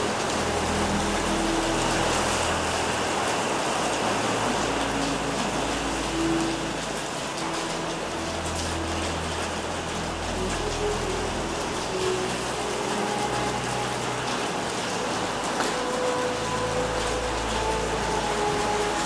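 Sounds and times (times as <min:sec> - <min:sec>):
heavy rain on rooftops: 0:00.0 - 0:19.0.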